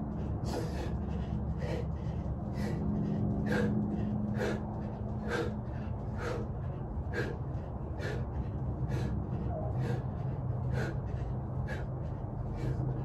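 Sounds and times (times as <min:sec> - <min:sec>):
man breathing hard: 0:00.0 - 0:13.0
steady low hum: 0:00.0 - 0:13.0.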